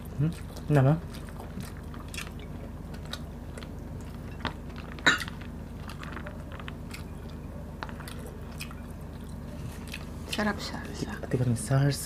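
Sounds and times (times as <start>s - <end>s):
people chewing food: 0.0s - 11.6s.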